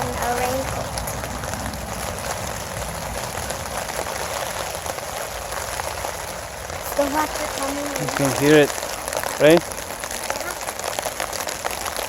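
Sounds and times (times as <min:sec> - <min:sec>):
rain pattering: 0:00.0 - 0:12.0
wind rumble on microphone: 0:00.0 - 0:12.0.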